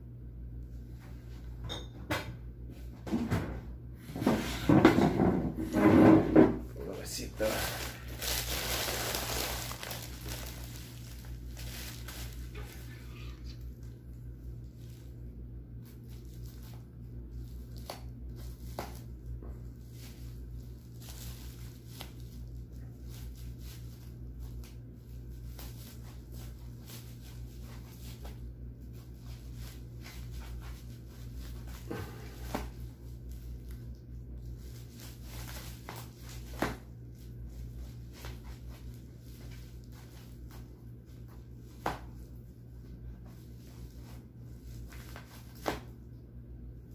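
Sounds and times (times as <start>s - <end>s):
steady low hum: 0.0s - 46.9s
plastic wrapping rustling: 6.8s - 46.0s.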